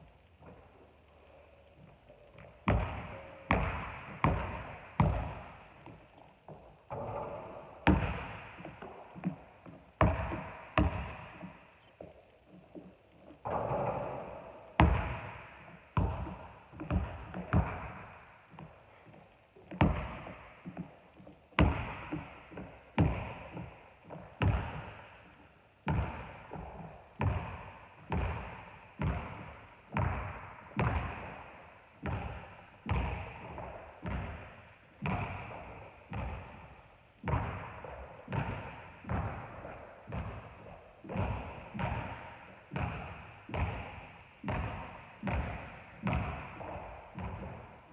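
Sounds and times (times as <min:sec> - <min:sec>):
basketball bouncing on wooden floor: 0:01.7 - 0:47.9.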